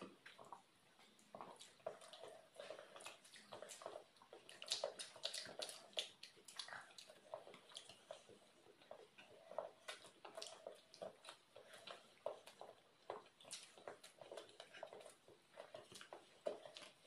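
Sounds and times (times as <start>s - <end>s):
wet chewing and lip-smacking: 0.0s - 17.0s.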